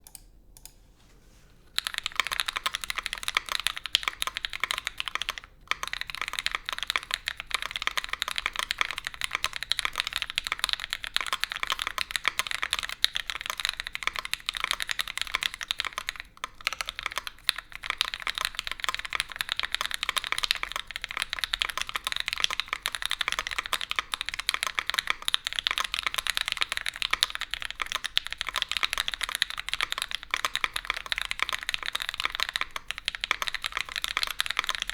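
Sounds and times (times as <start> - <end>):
mechanical keyboard typing: 1.8 - 34.9.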